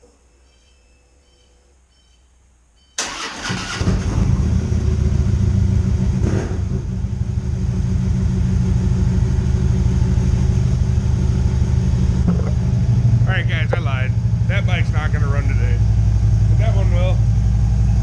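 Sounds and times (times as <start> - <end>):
motorcycle engine starting and idling: 3.0 - 18.0.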